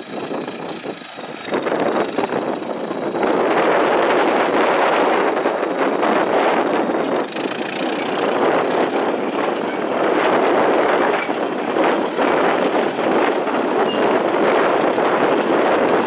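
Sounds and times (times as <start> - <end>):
bulldozer diesel engine clattering: 0.0 - 16.0.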